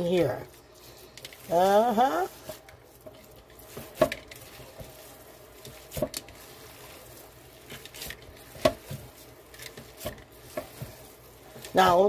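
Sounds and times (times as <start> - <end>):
squishing of kneaded meat: 0.0 - 12.0.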